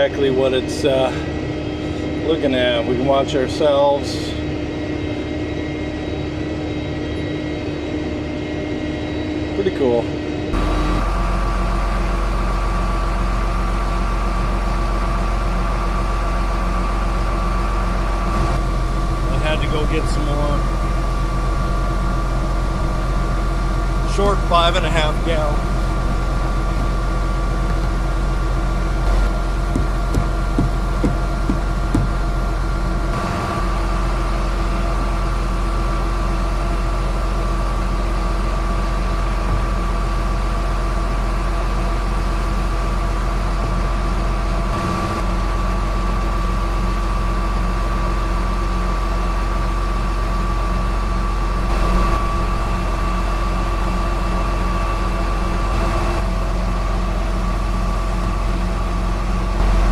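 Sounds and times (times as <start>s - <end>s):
sprayer engine droning: 0.0s - 9.7s, 10.3s - 59.9s
constant whine: 0.0s - 59.9s.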